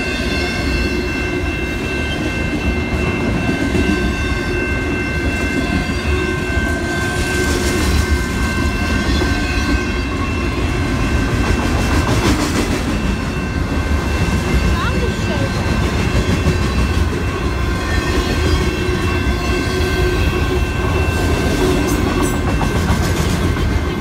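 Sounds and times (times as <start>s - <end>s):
high-pitched ringing tone: 0.0s - 11.8s, 12.6s - 23.9s
train wheels rumbling on rails: 0.0s - 24.0s.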